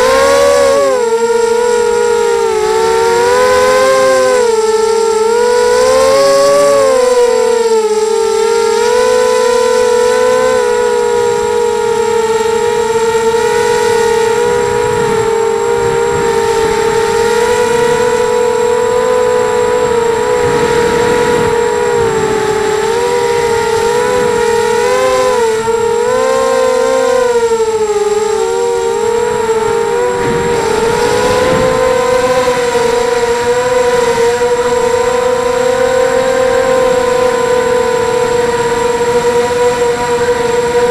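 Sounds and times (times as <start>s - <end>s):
drone motors whining: 0.0s - 40.9s
wind noise: 0.0s - 40.9s.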